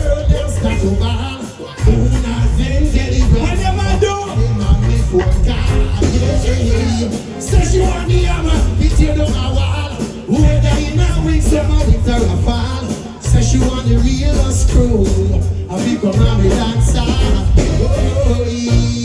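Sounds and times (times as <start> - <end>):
live reggae band music: 0.0 - 19.0
person singing: 0.0 - 19.0.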